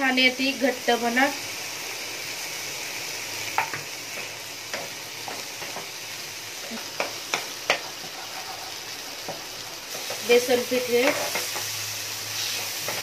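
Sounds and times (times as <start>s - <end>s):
frying sizzle in a pan: 0.0s - 13.0s.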